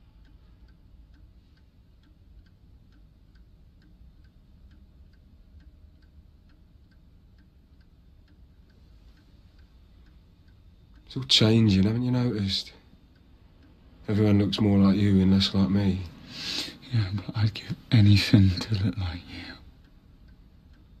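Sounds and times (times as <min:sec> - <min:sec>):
clock ticking: 0:00.0 - 0:21.0
low room rumble: 0:00.0 - 0:21.0.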